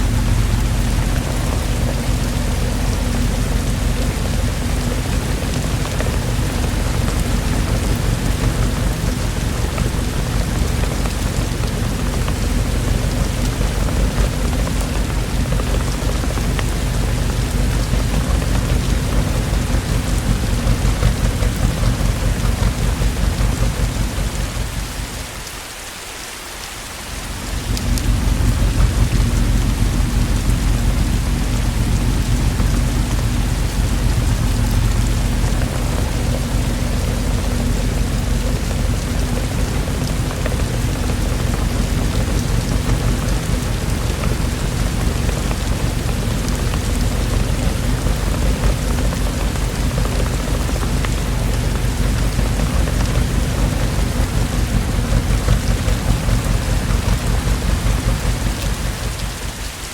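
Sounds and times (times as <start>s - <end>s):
low thunder rumble: 0.0s - 25.4s, 27.1s - 59.9s
heavy rain: 0.0s - 59.9s.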